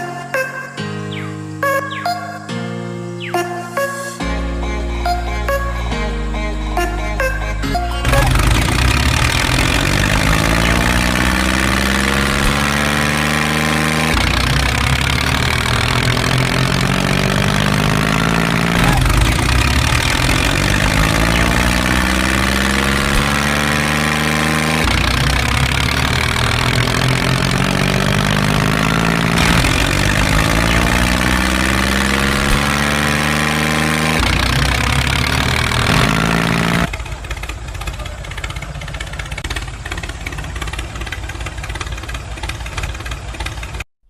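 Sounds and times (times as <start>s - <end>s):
tractor engine revving: 7.0s - 43.9s.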